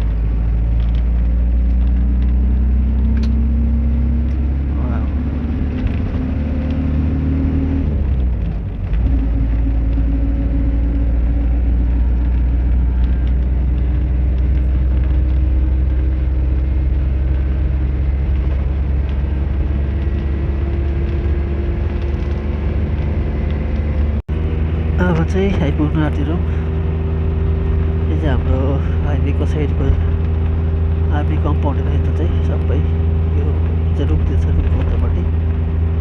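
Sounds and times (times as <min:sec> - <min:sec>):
bus engine running: 0:00.0 - 0:36.0.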